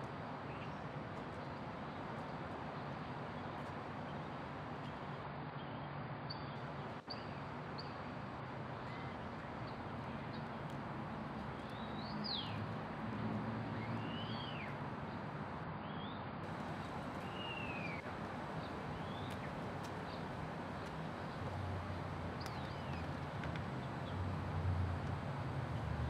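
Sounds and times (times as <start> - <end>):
birds chirping: 0.0 - 15.6, 16.5 - 25.9
outdoor background hiss: 0.0 - 26.0.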